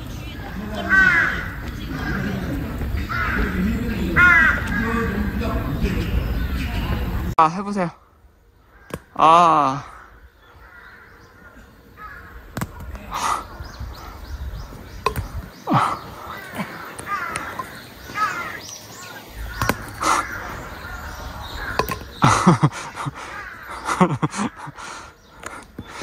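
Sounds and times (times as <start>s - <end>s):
crows cawing: 0.4s - 5.5s, 8.6s - 26.0s.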